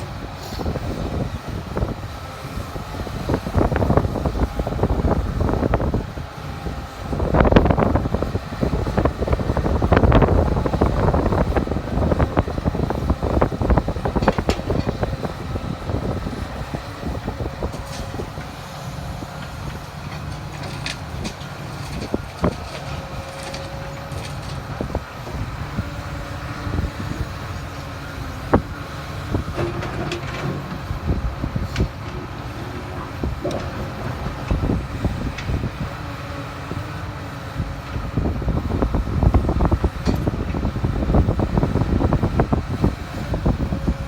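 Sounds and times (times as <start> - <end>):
excavator diesel engine: 0.0 - 44.0.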